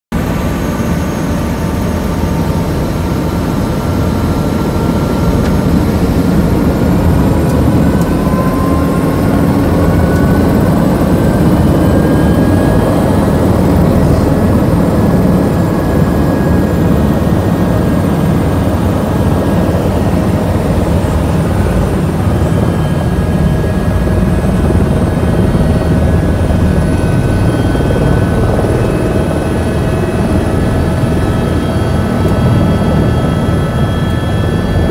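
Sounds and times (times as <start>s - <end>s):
helicopter rotor and turbine: 0.1s - 34.9s.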